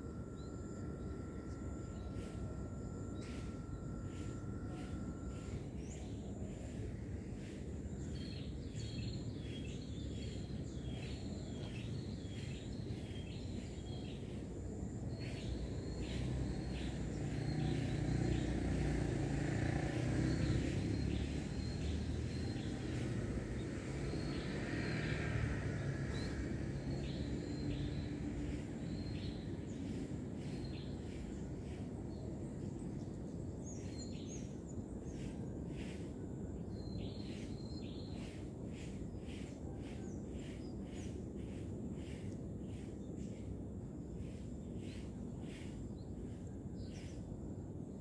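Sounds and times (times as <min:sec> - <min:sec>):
bird chirping: 0:00.0 - 0:25.2, 0:25.8 - 0:43.5.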